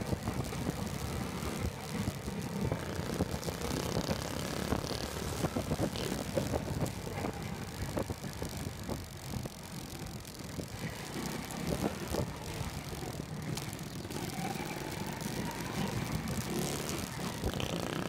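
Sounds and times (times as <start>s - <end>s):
passing traffic: 0.0s - 18.0s
vehicle engine and road noise: 0.0s - 18.0s.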